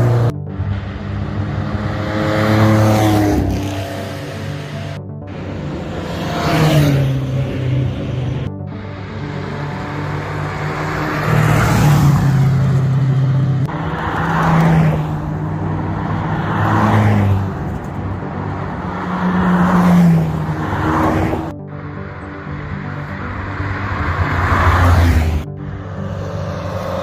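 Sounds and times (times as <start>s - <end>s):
rally cars driving past: 0.0s - 27.0s.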